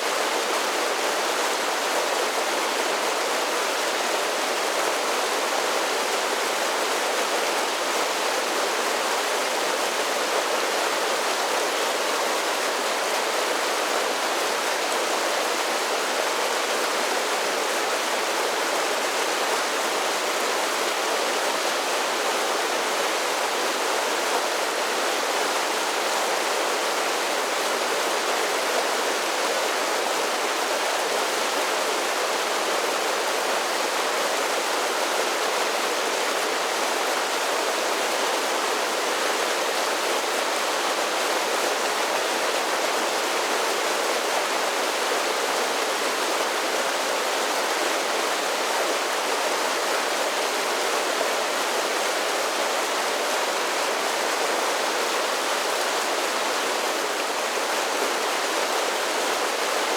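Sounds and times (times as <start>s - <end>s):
waterfall water rushing: 0.0s - 59.9s.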